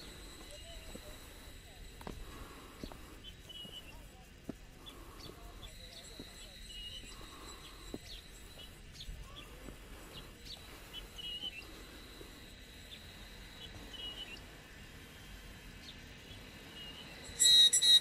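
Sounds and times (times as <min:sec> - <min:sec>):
bird chirps: 0:00.0 - 0:18.0
insects droning: 0:00.0 - 0:18.0.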